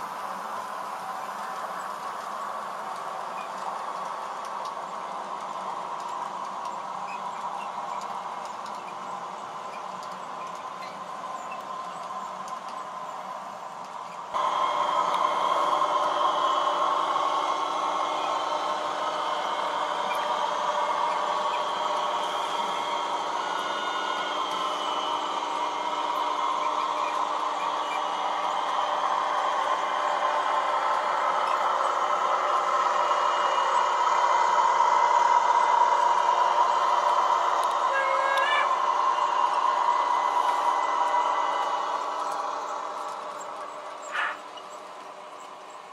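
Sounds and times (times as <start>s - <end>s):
model train motor hum: 0.0s - 45.9s
wheels rolling on track: 0.0s - 45.9s.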